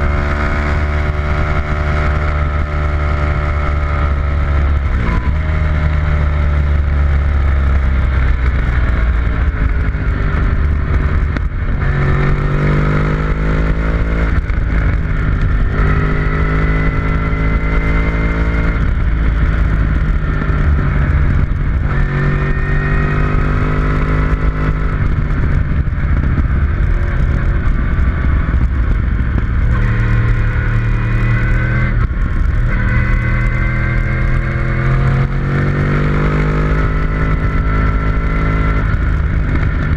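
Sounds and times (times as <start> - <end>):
race car engine revving: 0.0 - 39.9
wind noise: 0.0 - 39.9.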